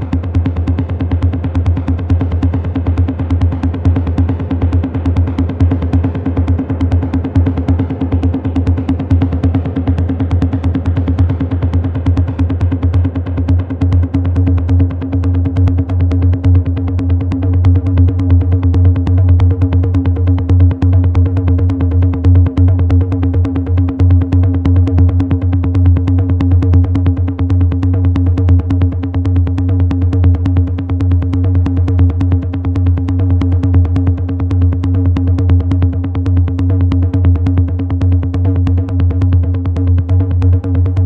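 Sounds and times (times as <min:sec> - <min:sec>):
steady low bass tone: 0:00.0 - 0:41.0.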